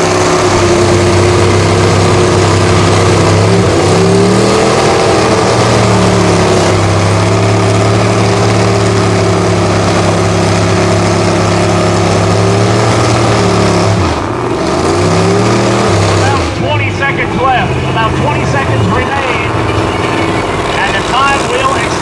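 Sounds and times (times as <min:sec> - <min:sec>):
vehicle engine running loud: 0:00.0 - 0:22.0.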